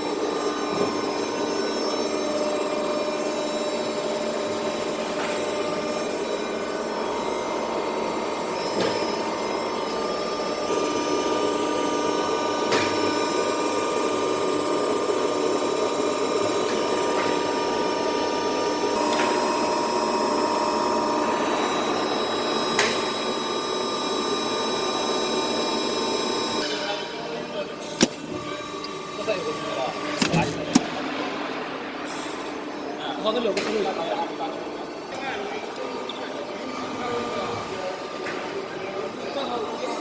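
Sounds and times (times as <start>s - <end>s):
hydraulic pump hum with whine: 0.0s - 40.0s.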